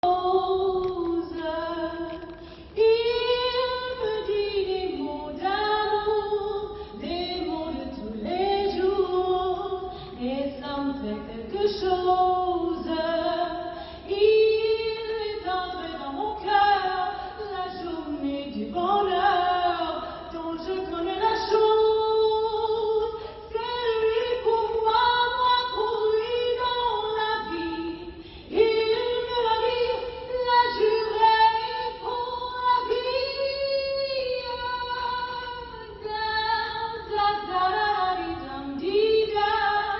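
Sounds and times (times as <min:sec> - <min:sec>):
woman singing unaccompanied: 0:00.0 - 0:39.9.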